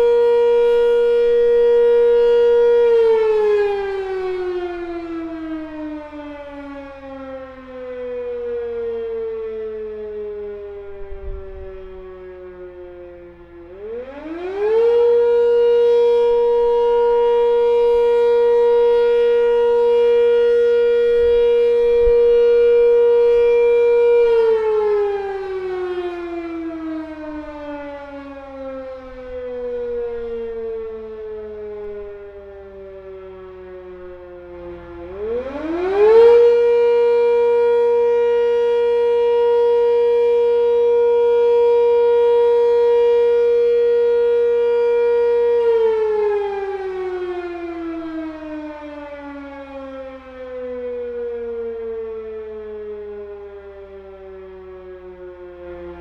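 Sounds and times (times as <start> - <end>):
warning siren winding up and down: 0.0 - 56.0.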